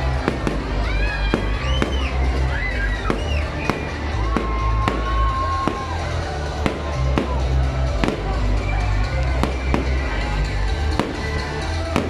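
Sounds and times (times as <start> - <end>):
fireworks bangs and crackles: 0.0 - 12.0
music: 0.0 - 12.0.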